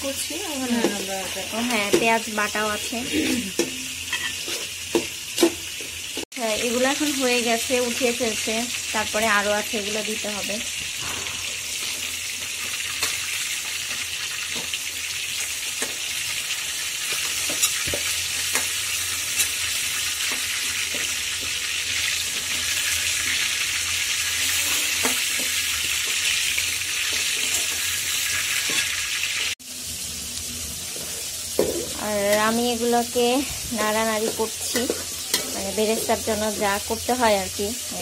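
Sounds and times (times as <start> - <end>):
metal utensil scraping wok: 0.0 - 6.2, 10.7 - 14.8, 15.4 - 38.0
chicken sizzling in hot oil: 0.0 - 38.0.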